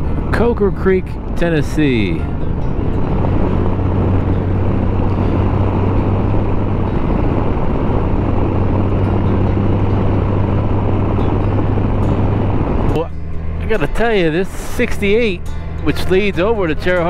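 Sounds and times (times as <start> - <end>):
motorcycle engine hum: 0.0 - 17.0
wind and road rush: 0.0 - 17.0.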